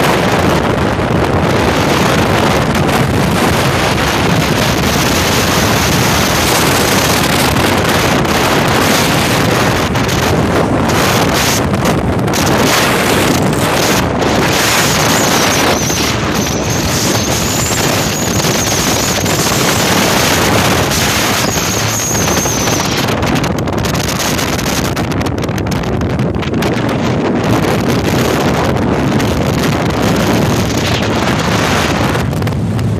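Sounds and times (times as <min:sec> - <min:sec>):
boat engine and water rush: 0:00.0 - 0:32.9
wind buffeting microphone: 0:00.0 - 0:32.9.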